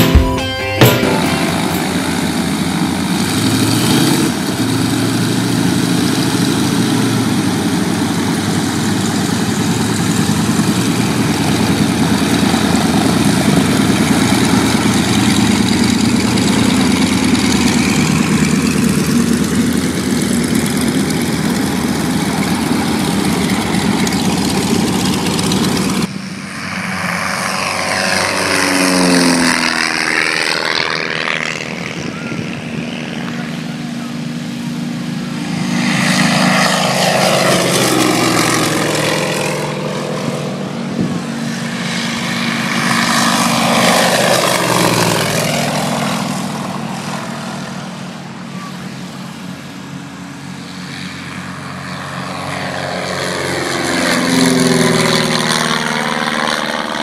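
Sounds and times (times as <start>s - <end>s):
propeller aircraft engines running: 0.0s - 57.0s
propeller plane passing low: 0.0s - 57.0s.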